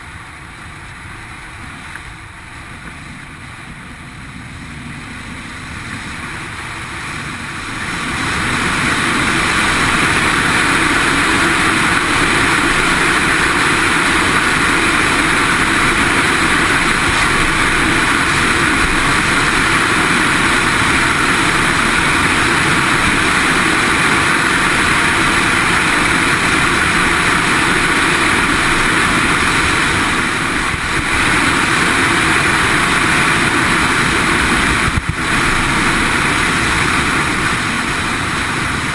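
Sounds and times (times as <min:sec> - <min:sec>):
drone motor and propeller: 0:00.0 - 0:38.9
rushing air: 0:00.0 - 0:38.9.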